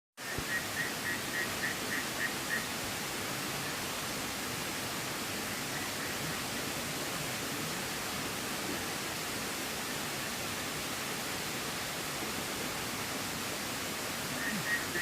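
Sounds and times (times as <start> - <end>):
running water rushing: 0.2 - 15.0.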